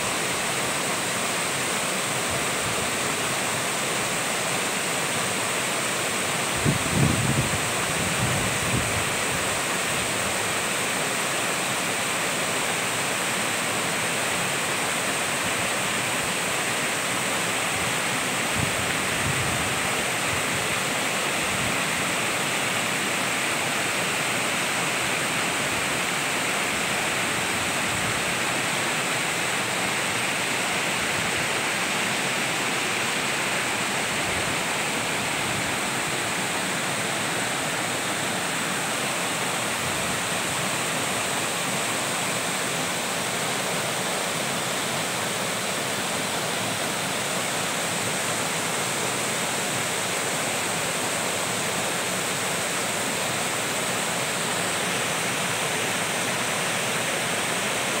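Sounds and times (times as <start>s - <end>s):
waterfall rushing over boulders: 0.0s - 58.0s.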